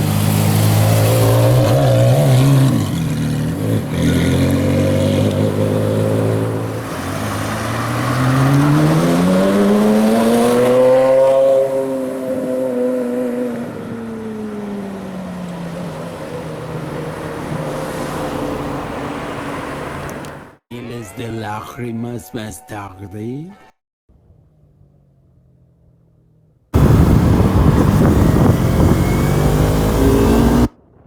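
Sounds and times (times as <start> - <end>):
car engine revving: 0.0 - 20.6, 24.2 - 30.8.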